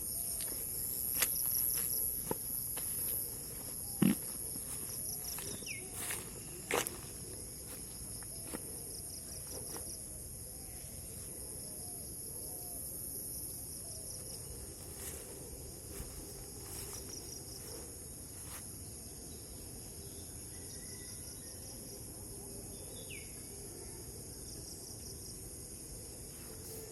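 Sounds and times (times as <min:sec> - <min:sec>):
insects chirring: 0:00.0 - 0:21.8.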